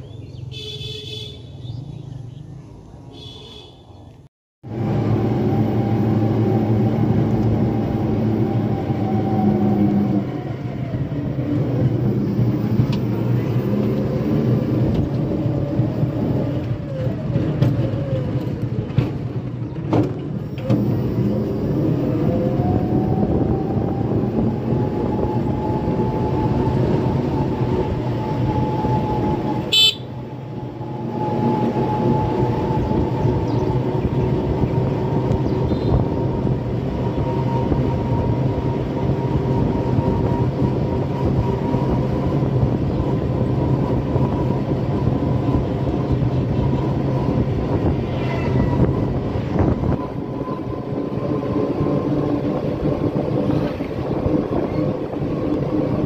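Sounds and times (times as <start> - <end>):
vehicle motor humming and whining: 4.7 - 56.0.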